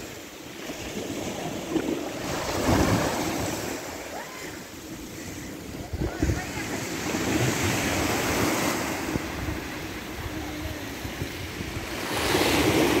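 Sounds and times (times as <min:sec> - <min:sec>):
waves washing over pebbles: 0:00.0 - 0:13.0
wind rumbling on microphone: 0:00.0 - 0:13.0.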